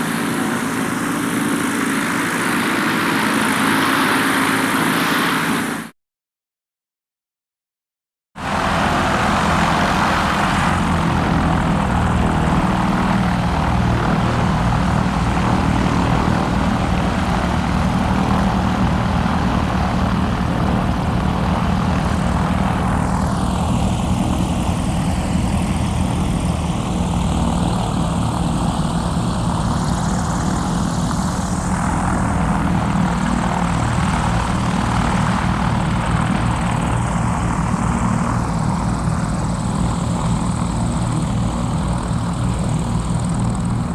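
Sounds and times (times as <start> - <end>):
propeller engines droning: 0.0 - 5.9, 8.4 - 43.9.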